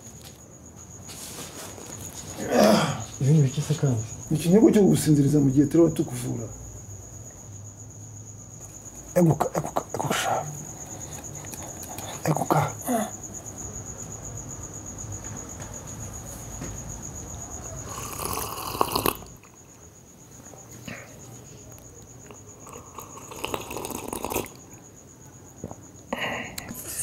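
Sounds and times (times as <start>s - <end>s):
cricket trilling: 0.0s - 27.0s.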